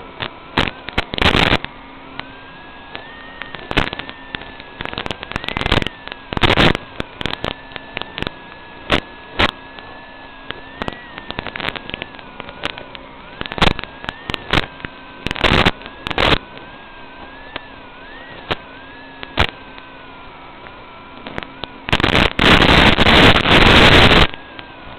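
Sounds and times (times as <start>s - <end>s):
electronic hum and whine: 0.0s - 24.9s
radio static crackles: 0.0s - 24.9s
wavering electronic tone: 0.0s - 24.9s.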